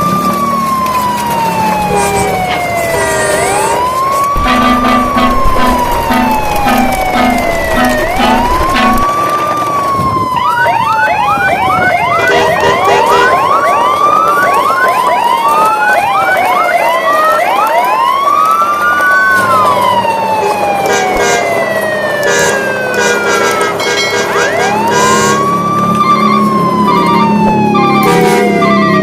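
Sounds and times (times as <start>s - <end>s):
electronic siren wailing: 0.0s - 29.0s.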